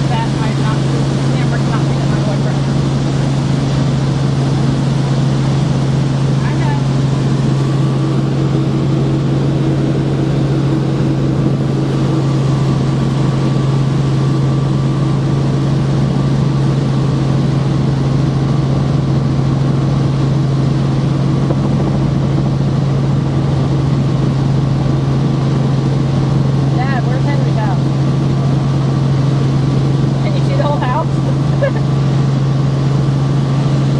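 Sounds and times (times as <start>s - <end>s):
helicopter cabin drone: 0.0s - 33.9s.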